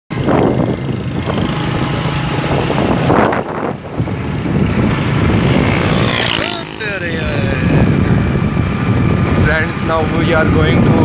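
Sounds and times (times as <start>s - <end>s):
vehicle engine running: 0.1s - 11.0s
wind rushing over microphone: 0.1s - 11.0s.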